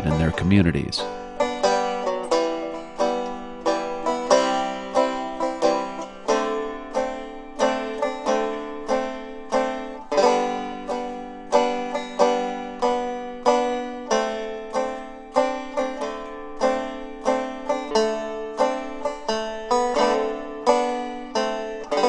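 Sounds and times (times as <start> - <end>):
plucked-string tune: 0.0 - 22.0.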